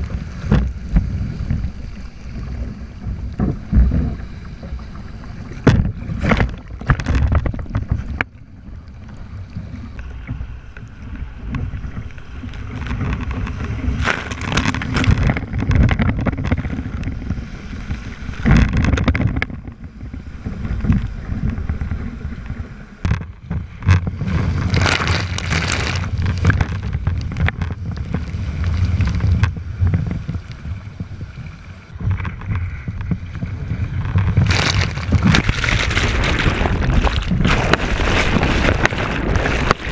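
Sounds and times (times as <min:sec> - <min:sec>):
sea water splashing against kayak: 0:00.0 - 0:39.9
wind rumble on microphone: 0:00.0 - 0:39.9.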